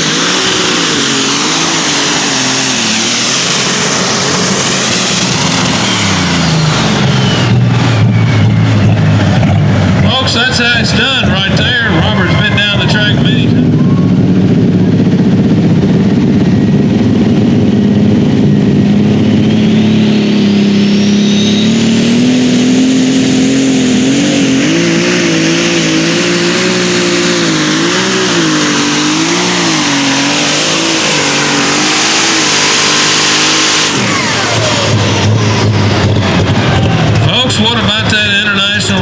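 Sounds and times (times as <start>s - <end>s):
diesel tractor engine under load: 0.0s - 39.0s
turbo whine: 0.0s - 39.0s.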